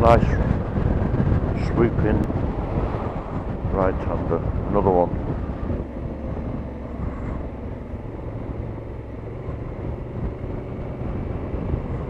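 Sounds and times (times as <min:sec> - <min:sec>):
motorcycle engine humming: 0:00.0 - 0:12.0
wind and road noise: 0:00.0 - 0:12.0.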